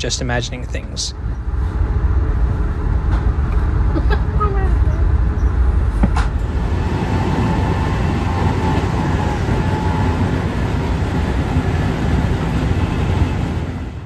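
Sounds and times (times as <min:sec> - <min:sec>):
train rumble and rail noise: 0:00.0 - 0:14.0.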